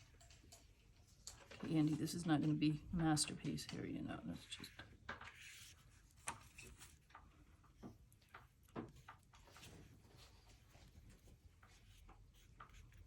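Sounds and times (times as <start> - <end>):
paintbrush tapping and scratching paper: 0.1 - 13.0.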